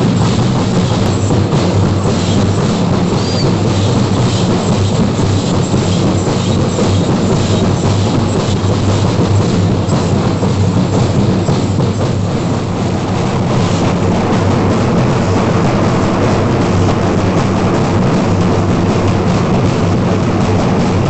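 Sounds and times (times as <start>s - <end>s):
drums beating fast rhythm: 0.0s - 21.0s.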